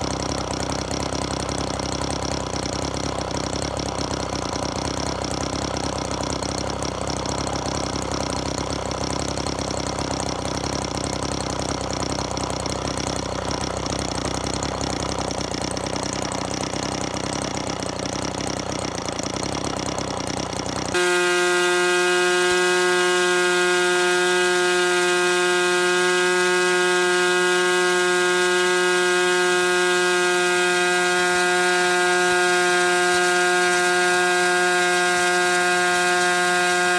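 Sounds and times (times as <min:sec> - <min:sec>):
model engine running: 0:00.0 - 0:36.9.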